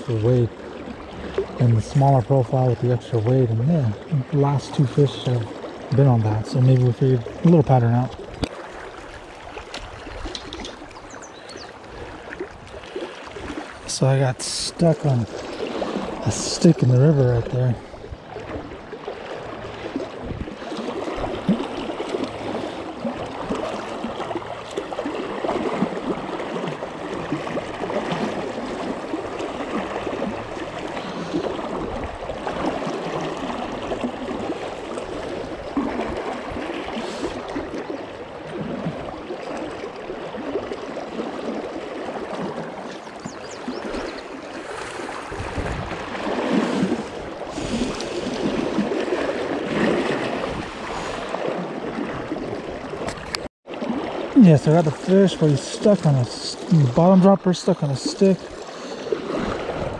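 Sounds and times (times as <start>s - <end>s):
river current rushing: 0.0s - 59.9s.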